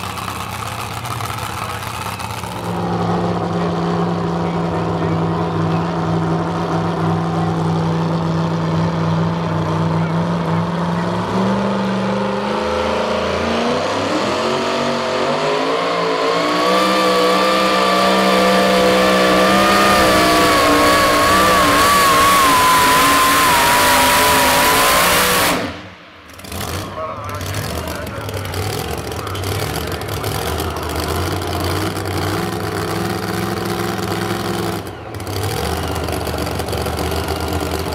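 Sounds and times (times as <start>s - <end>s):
supercharged truck engine revving: 0.0s - 37.9s.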